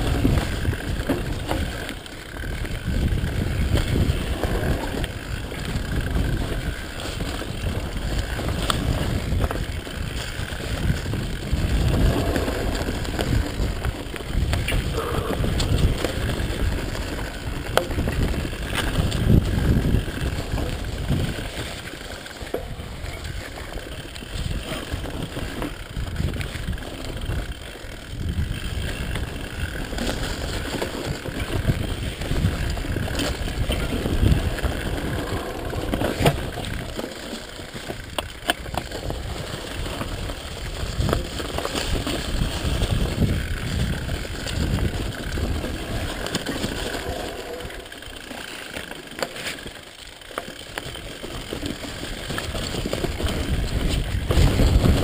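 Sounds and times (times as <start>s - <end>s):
wind buffeting microphone: 0.0s - 47.9s, 51.4s - 55.0s
bike rattling over bumps: 0.0s - 55.0s
bike tyre rumble: 0.0s - 55.0s.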